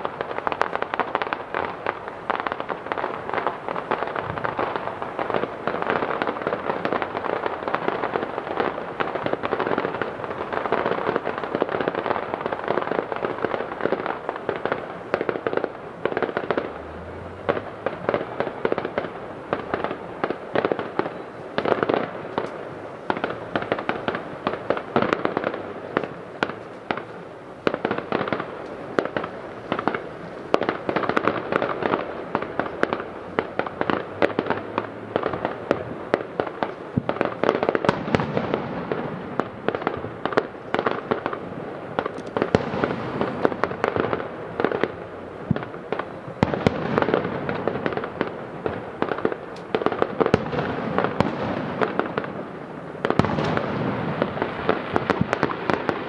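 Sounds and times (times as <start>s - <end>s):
distant fireworks bangs and crackling: 0.0s - 56.0s.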